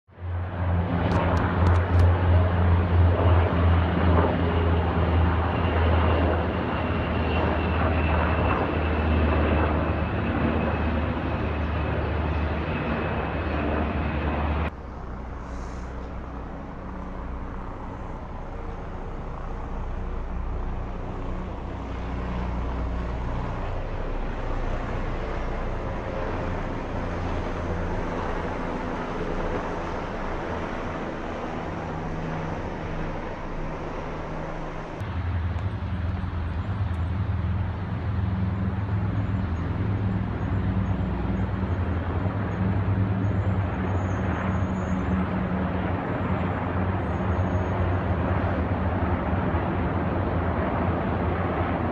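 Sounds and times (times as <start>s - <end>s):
helicopters flying overhead: 0.1s - 51.9s.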